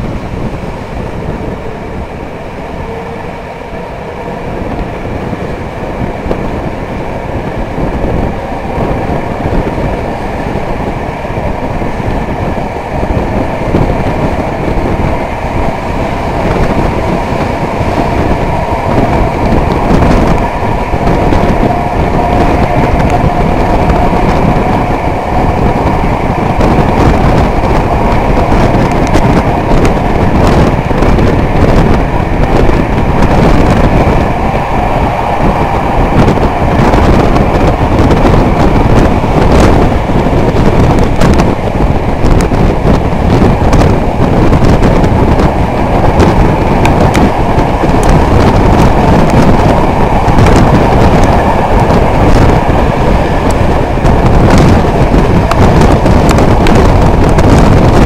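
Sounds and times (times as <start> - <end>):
rush of wind and train noise: 0.0 - 58.0.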